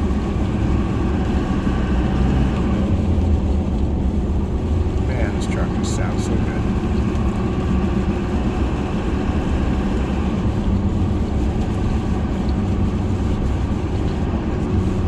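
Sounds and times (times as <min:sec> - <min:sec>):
loud tire hum: 0:00.0 - 0:15.0
truck engine drone: 0:00.0 - 0:15.0.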